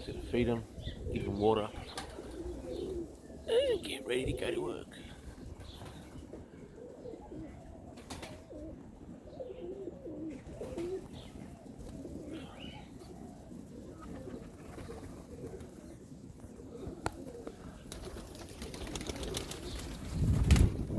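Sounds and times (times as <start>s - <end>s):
pigeons cooing: 0.0s - 20.9s.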